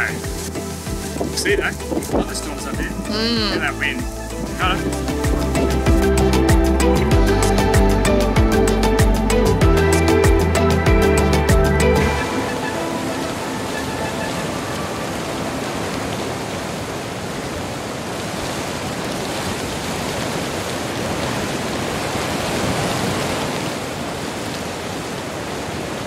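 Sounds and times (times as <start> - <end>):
heavy rain on ground and roof: 0.0 - 8.3, 11.8 - 26.0.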